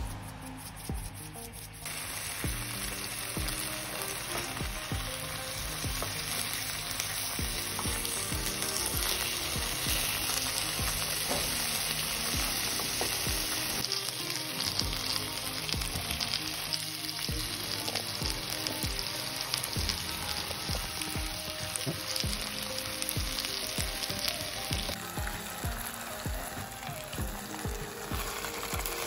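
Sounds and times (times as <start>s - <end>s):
meat sizzling in oil: 1.6s - 29.0s.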